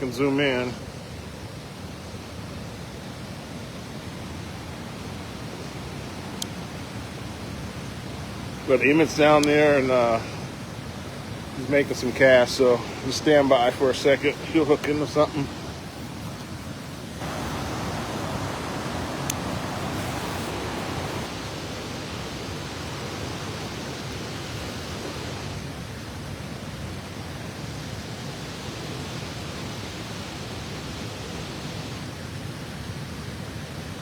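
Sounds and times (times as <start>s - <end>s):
waterfall and river rushing: 0.0s - 34.0s.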